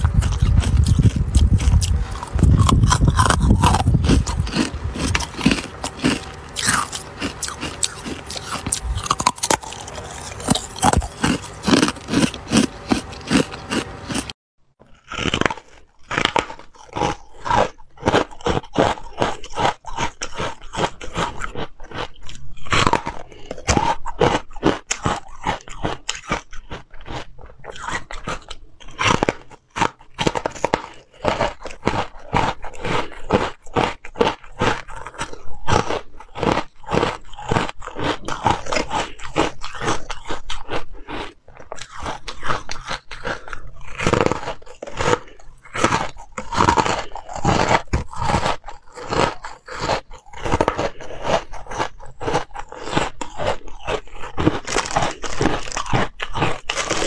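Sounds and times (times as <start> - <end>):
crunchy ice chewing: 0.0 - 57.0.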